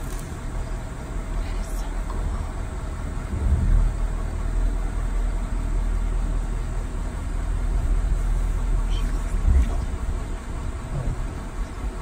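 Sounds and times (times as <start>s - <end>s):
motor vehicle engine rumbling: 0.0s - 12.0s.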